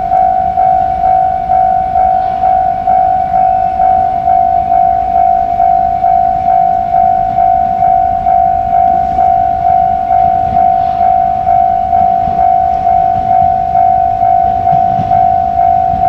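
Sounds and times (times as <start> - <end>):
level crossing alarm dinging: 0.0 - 16.0
train rumbling: 0.0 - 16.0.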